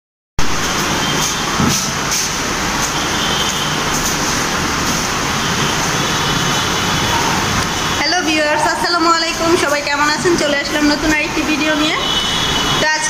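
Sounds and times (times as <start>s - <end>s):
road traffic rushing: 0.4s - 13.0s.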